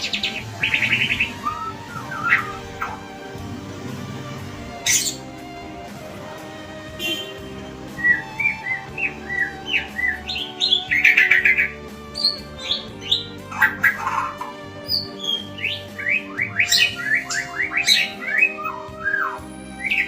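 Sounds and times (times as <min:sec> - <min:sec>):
bird singing whistles and trills: 0:00.0 - 0:03.1, 0:07.0 - 0:20.0
background music: 0:00.0 - 0:20.0.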